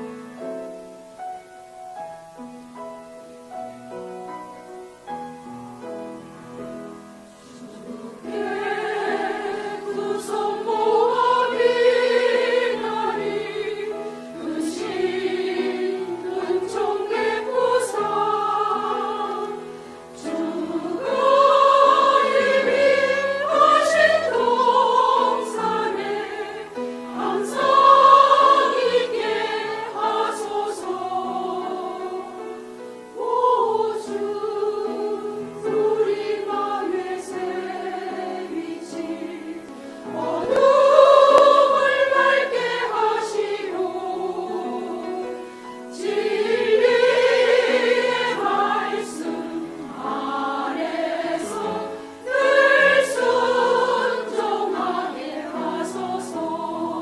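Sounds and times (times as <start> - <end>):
keyboard accompaniment: 0.0 - 57.0
choir singing a hymn: 4.2 - 57.0.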